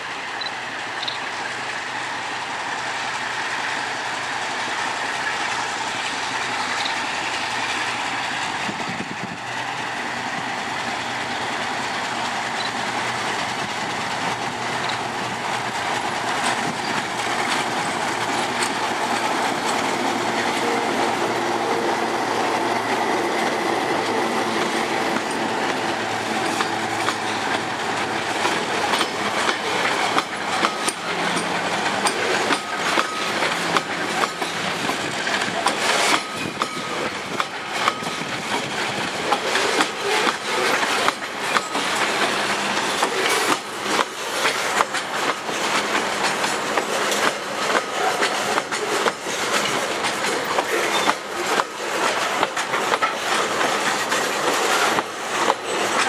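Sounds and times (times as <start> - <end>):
diesel locomotive engines: 0.0 - 56.0
train wheels clacking over rail joints: 0.3 - 2.0, 2.8 - 56.0.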